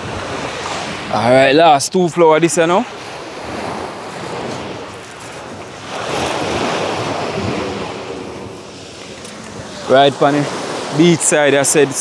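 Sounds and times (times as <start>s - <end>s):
surf washing onto pebble beach: 0.0s - 12.0s
wind buffeting microphone: 0.0s - 12.0s.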